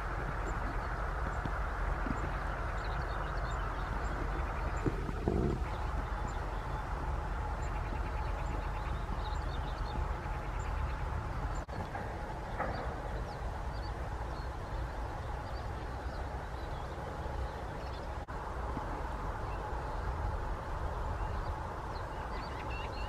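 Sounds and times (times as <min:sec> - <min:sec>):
small birds chirping: 0:00.0 - 0:18.3, 0:19.4 - 0:23.0
steady low rumble: 0:00.0 - 0:23.0.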